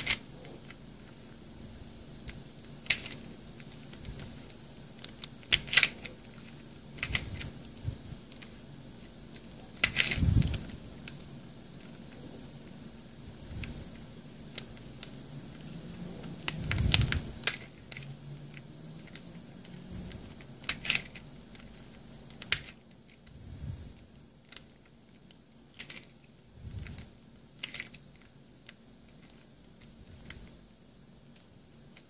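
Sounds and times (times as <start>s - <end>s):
plastic puzzle clicking: 0.0s - 1.4s, 2.2s - 12.8s, 13.4s - 23.3s, 24.0s - 30.6s.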